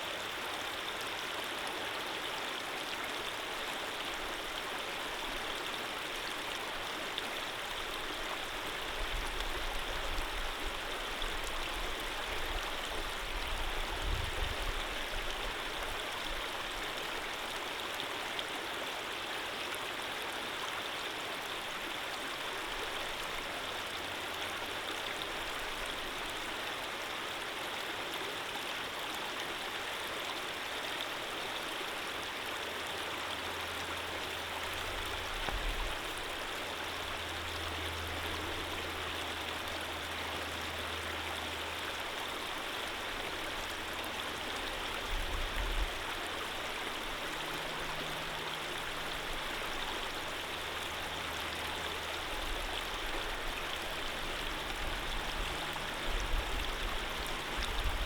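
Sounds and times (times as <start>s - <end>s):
stream water running: 0.0s - 58.0s.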